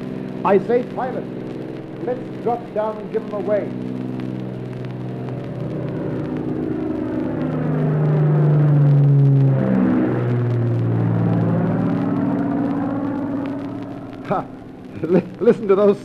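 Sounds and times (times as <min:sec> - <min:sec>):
propeller plane passing over: 0:00.0 - 0:14.9.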